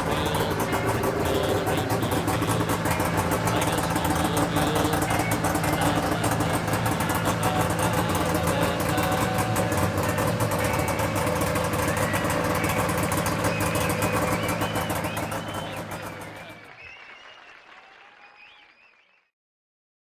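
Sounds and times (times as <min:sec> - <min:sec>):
snowmobile engine idling: 0:00.0 - 0:16.7.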